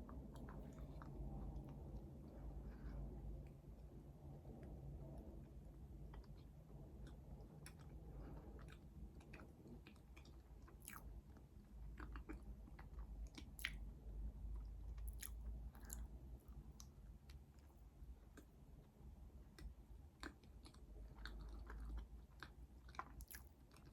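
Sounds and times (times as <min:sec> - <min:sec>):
close chewing of food: 0:00.0 - 0:23.9.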